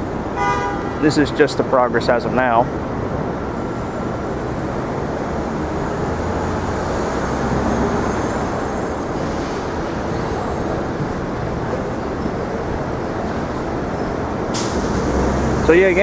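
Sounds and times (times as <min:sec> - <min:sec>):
dense traffic rumble: 0:00.0 - 0:16.0.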